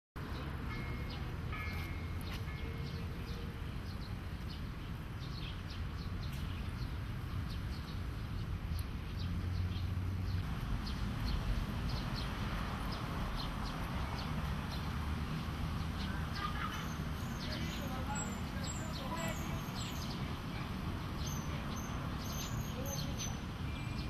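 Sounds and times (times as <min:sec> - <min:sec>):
small birds chirping: 0:00.3 - 0:24.0.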